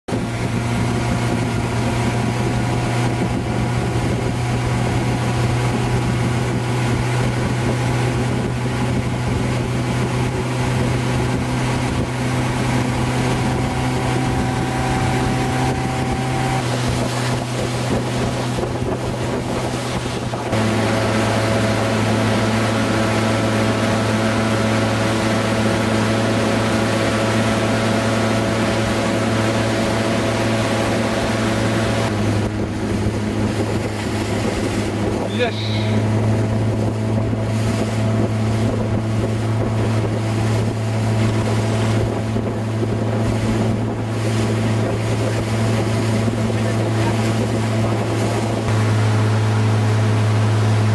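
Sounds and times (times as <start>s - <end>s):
churning boat wake: 0.1s - 50.9s
motorboat engine running: 0.1s - 50.9s
wind on microphone: 0.1s - 50.9s.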